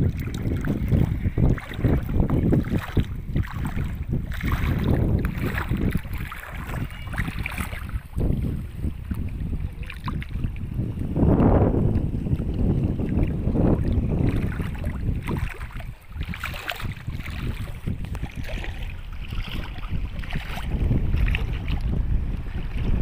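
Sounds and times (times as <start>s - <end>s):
sea water washing on shore: 0.0s - 23.0s
wind buffeting microphone: 0.0s - 23.0s.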